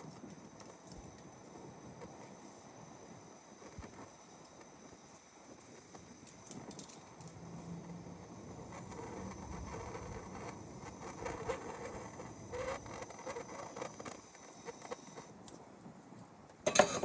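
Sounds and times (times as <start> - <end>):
gas torch flame burning: 0.0 - 15.8, 16.6 - 17.0.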